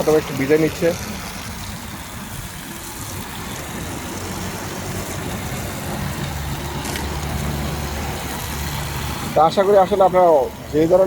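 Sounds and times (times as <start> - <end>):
pump motor humming: 0.0 - 11.0
water spraying hiss: 0.0 - 11.0.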